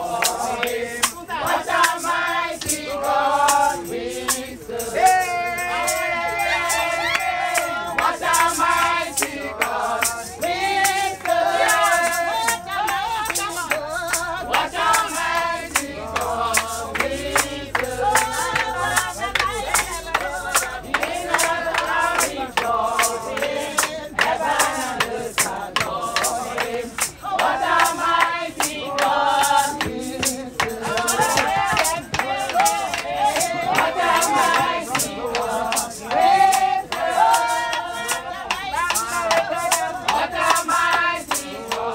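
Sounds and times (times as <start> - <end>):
congregation singing: 0.0 - 41.9
rhythmic hand-clapping: 0.0 - 41.9.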